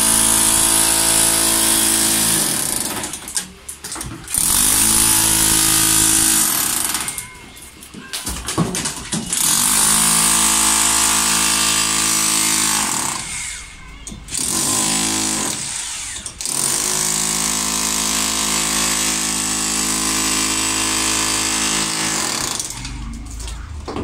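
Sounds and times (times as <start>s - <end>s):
demolition hammer chiselling concrete: 0.0s - 3.4s, 4.3s - 7.4s, 8.6s - 13.6s, 14.3s - 22.8s.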